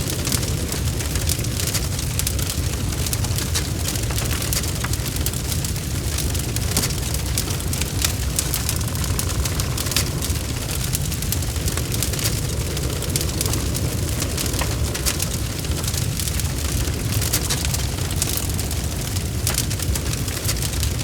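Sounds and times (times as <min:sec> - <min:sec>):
fire crackles and pops: 0:00.0 - 0:21.0
log fire burning: 0:00.0 - 0:21.0.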